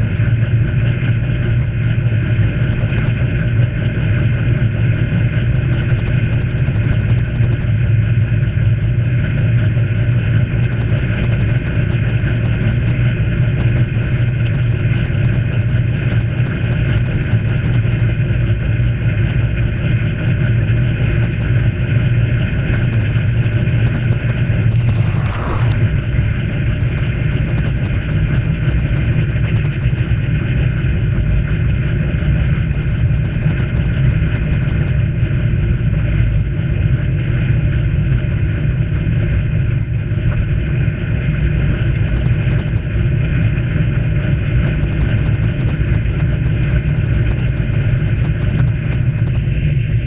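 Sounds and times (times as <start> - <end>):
wind rumble on microphone: 0.0 - 50.0.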